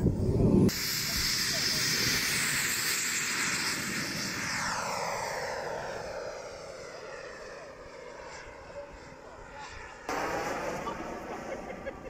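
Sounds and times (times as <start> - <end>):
jet turbine whine and exhaust hiss: 0.1 - 12.0.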